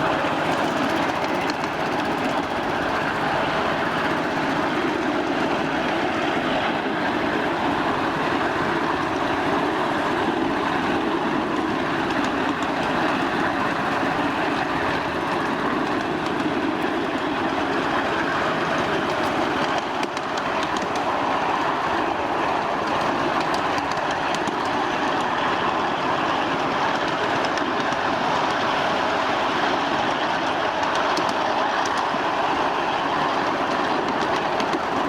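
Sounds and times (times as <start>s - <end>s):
train wheels on rail: 0.0s - 35.0s.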